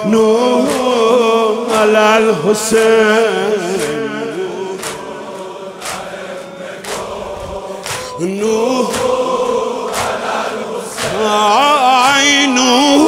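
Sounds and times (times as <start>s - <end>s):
crowd of men chanting: 0.0s - 13.0s
rhythmic chest-beating: 0.0s - 13.0s.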